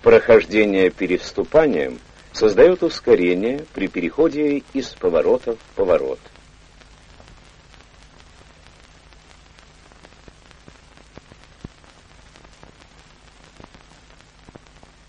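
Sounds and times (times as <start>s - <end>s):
crackling clicks: 0.0s - 15.0s
faint low hum: 0.0s - 15.0s
film soundtrack surface hiss: 0.0s - 15.0s.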